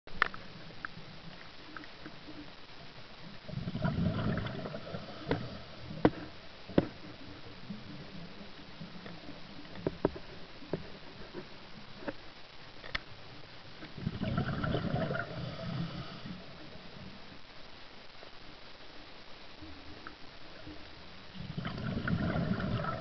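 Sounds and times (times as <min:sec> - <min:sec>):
faint underwater hiss: 0:00.1 - 0:23.0.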